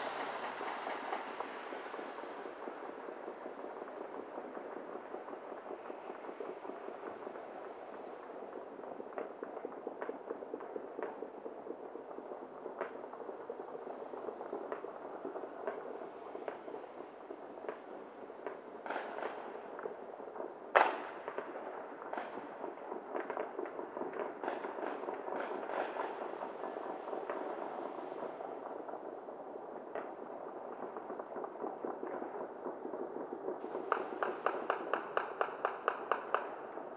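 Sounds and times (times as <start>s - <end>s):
fireworks popping and cracking: 0.0s - 36.9s.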